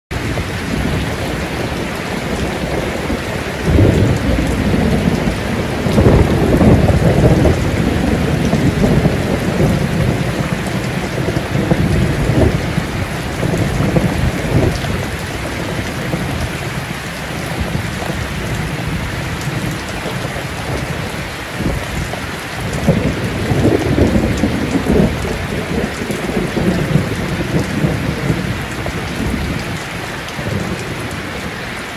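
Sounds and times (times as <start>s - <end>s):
heavy rain pouring: 0.1s - 31.9s
thunder rumbling: 0.1s - 31.9s.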